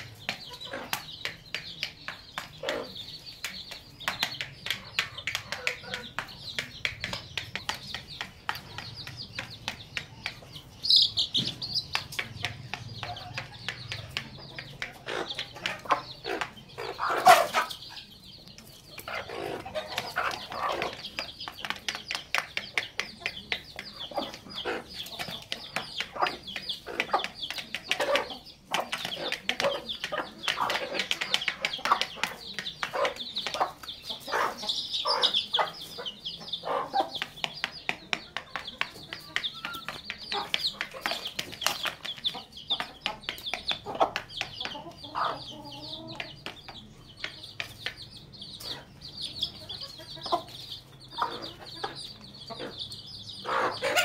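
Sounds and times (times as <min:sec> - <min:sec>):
chicks peeping: 0:00.0 - 0:54.0
hens clucking: 0:00.0 - 0:54.0
hens pecking on plastic plate: 0:00.0 - 0:54.0.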